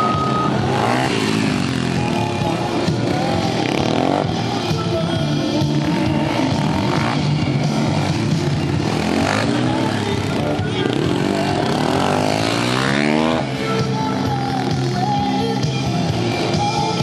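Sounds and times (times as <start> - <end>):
loud rock music: 0.0 - 17.0
motorcycle engine revving: 0.0 - 17.0.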